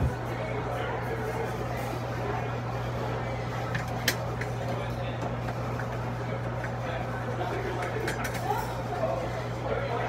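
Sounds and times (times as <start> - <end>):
refrigeration low hum: 0.0 - 10.0.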